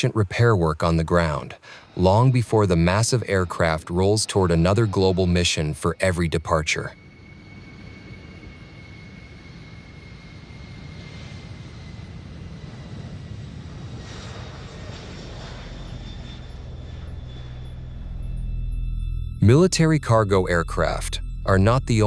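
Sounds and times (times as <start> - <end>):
aircraft engines rumbling and whining: 1.1 - 22.0.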